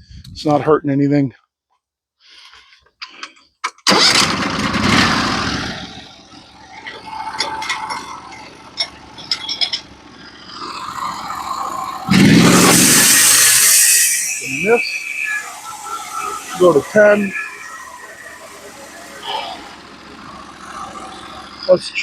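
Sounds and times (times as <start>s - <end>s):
gasoline engine running: 3.9s - 22.0s.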